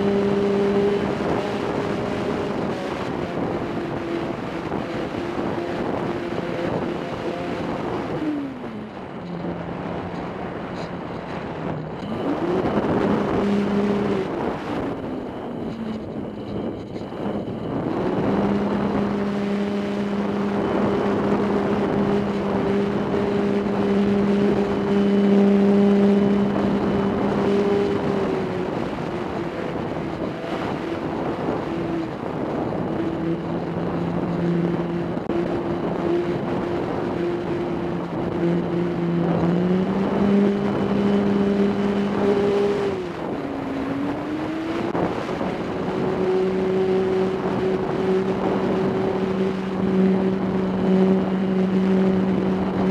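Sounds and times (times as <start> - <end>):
model plane motor humming: 0.0 - 52.9
wind rushing over microphone: 0.0 - 52.9.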